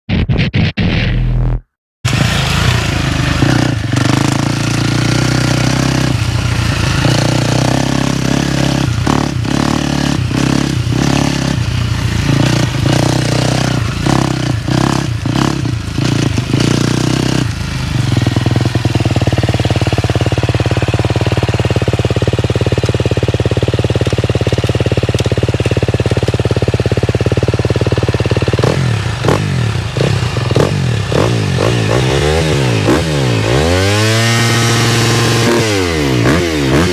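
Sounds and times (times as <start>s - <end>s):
motorcycle engine revving: 1.4s - 36.9s.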